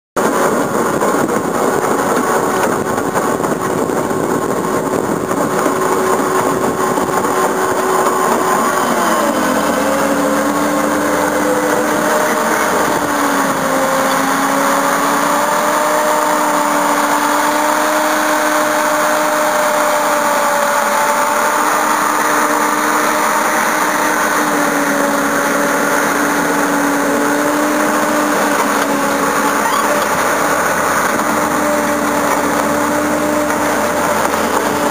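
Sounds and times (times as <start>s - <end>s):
dozer engine running: 0.2s - 34.9s.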